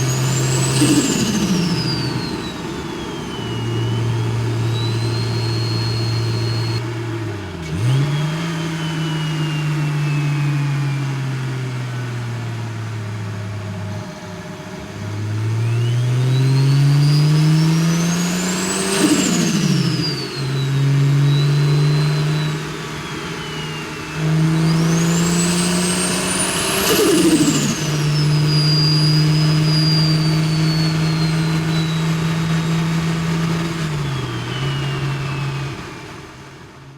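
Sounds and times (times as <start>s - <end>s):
turbo whistle: 0.0s - 6.9s, 7.8s - 12.1s, 15.5s - 36.5s
car engine revving through gears: 0.0s - 36.8s.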